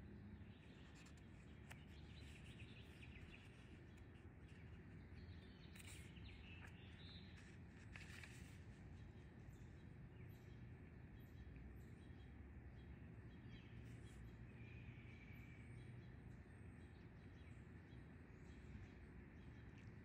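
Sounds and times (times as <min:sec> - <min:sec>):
faint bird chirps: 0:00.3 - 0:20.0.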